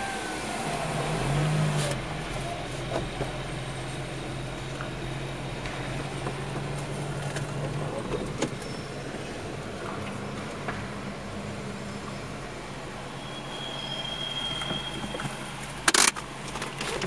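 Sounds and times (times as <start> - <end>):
car engine hum: 0.0 - 17.0
road and tyre noise: 0.0 - 17.0.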